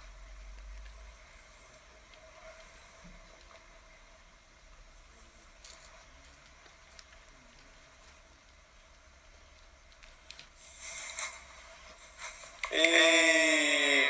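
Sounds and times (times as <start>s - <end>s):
faint hiss and hum: 0.0s - 14.0s.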